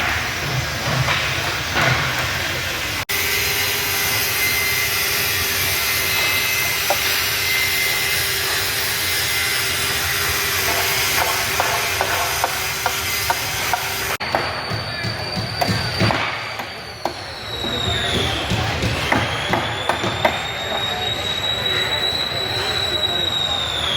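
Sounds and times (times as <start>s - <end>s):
machine running with hiss and hum: 0.0s - 22.7s.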